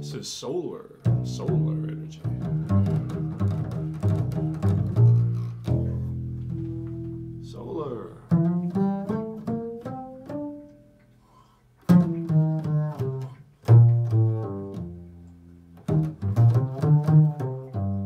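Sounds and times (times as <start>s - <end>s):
plucked string instrument solo: 1.0s - 11.1s, 11.8s - 18.0s.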